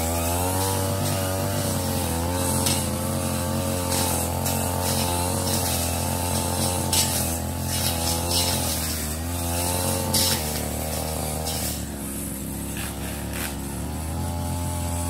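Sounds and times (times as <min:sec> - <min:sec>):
brush cutter engine running: 0:00.0 - 0:15.0
blade hitting stalks: 0:00.9 - 0:11.9, 0:12.6 - 0:13.7.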